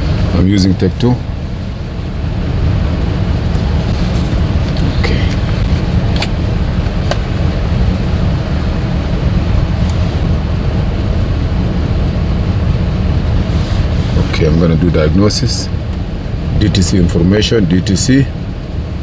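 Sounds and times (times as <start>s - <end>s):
car engine idling with misfire: 0.0s - 19.0s.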